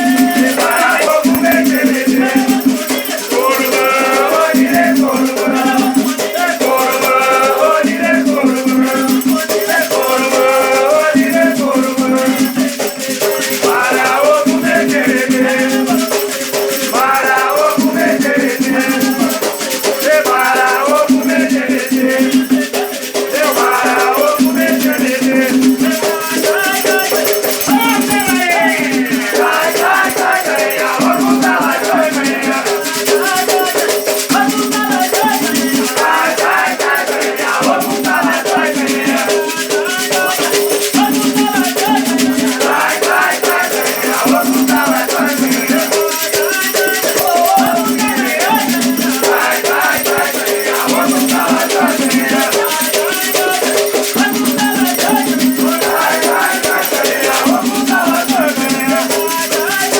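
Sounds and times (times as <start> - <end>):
rattles shaken in rhythm: 0.0 - 59.9
voices singing: 0.0 - 59.9.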